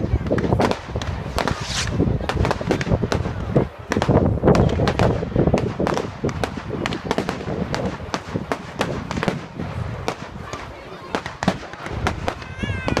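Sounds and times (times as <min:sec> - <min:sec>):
firework cracks and pops: 0:00.0 - 0:13.0
rumbling firework booms: 0:00.0 - 0:13.0
firework bang: 0:00.2 - 0:13.0.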